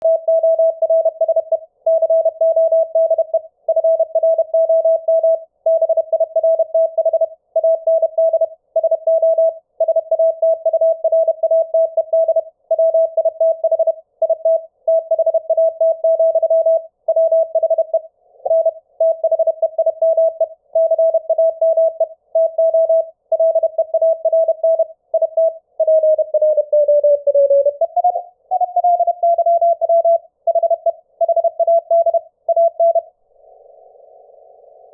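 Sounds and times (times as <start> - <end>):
morse code tone: 0.0 - 33.1.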